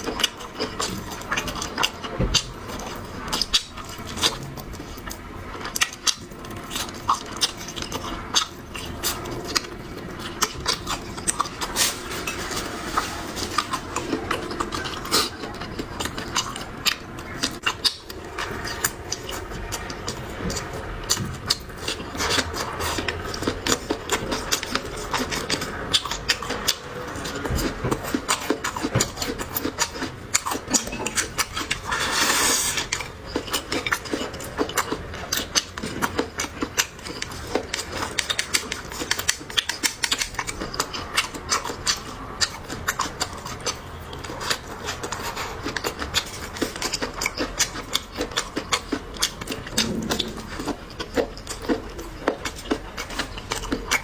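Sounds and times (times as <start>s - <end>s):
chewing and eating: 0.0s - 54.0s.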